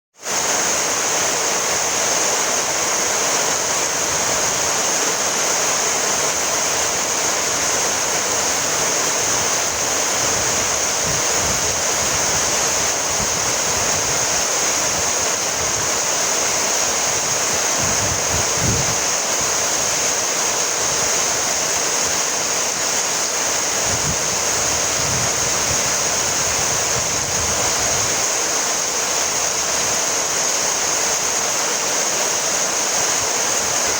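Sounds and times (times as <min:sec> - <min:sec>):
steady rainfall: 0:00.2 - 0:33.9.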